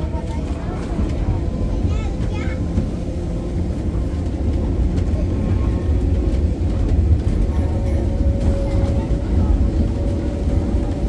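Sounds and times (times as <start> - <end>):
tram running: 0.0 - 11.0.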